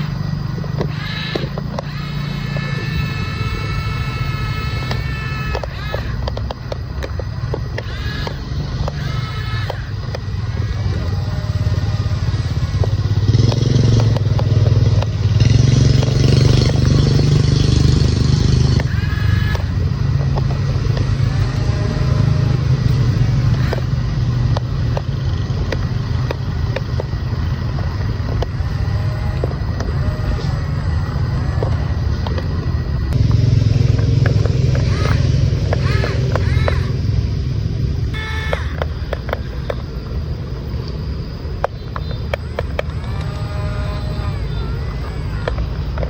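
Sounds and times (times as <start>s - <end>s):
toy electric motors whirring: 0.0s - 37.2s, 38.0s - 46.0s.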